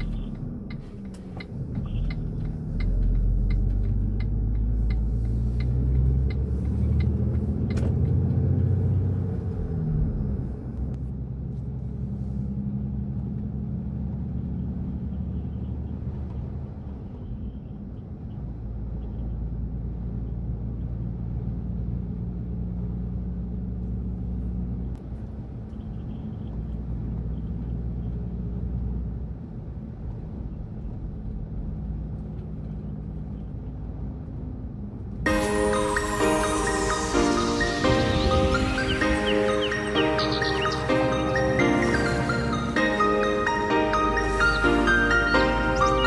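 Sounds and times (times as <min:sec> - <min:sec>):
large engine droning: 0:00.0 - 0:46.0.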